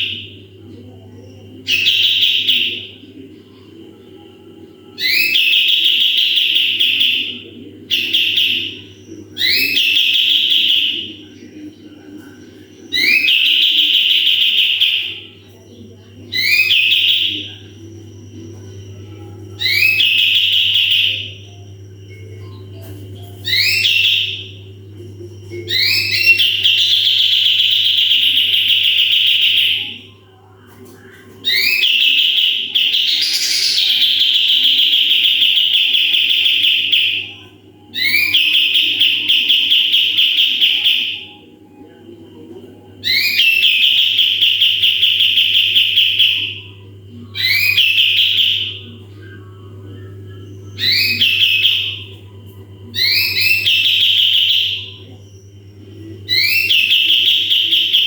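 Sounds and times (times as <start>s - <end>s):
songbird chirps and trills: 0.0s - 58.0s
steady low hum: 0.0s - 58.0s.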